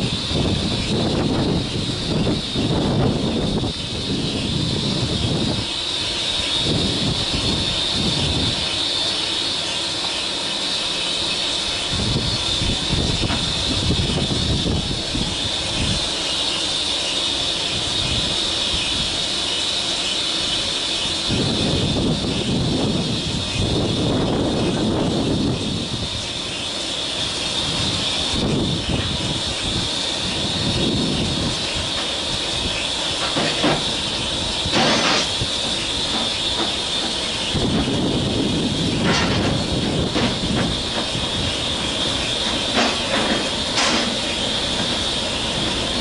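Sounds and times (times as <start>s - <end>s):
wind buffeting microphone: 0.0s - 8.8s, 11.8s - 16.2s, 17.6s - 19.2s, 21.1s - 46.0s
diesel locomotive engine running: 0.0s - 46.0s
high-pitched whine: 0.0s - 46.0s.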